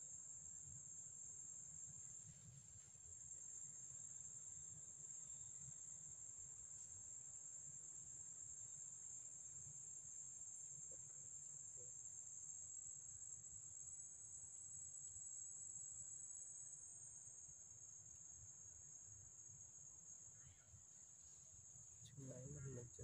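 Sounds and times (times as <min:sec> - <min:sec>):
insects trilling: 0:03.0 - 0:23.0.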